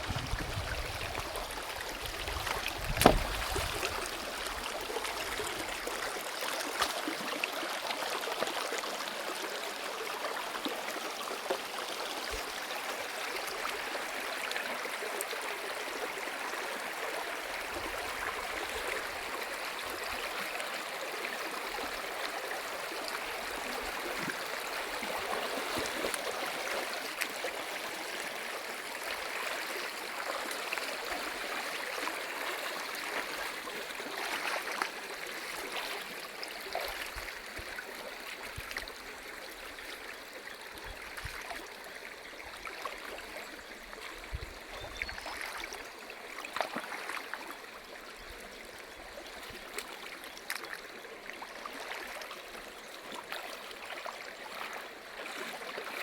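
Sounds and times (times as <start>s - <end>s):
stream water running over rocks: 0.0s - 56.0s.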